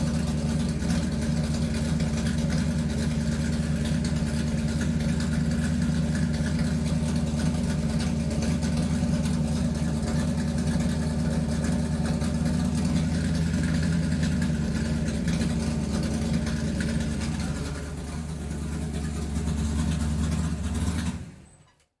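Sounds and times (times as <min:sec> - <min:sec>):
vehicle motor humming: 0:00.0 - 0:21.5.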